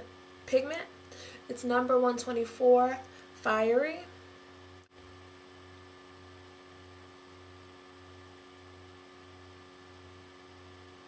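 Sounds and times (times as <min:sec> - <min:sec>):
electrical hum: 0:00.0 - 0:11.0
faint high whine and hiss: 0:00.0 - 0:11.0.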